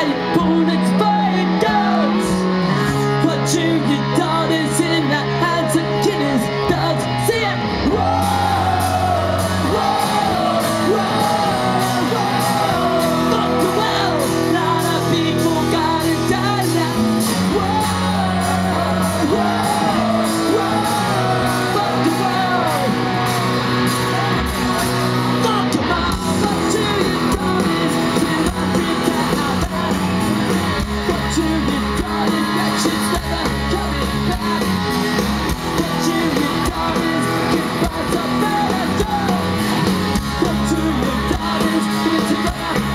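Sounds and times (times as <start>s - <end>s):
punk rock band playing live: 0.0s - 42.9s
sung and shouted vocals: 0.0s - 42.9s.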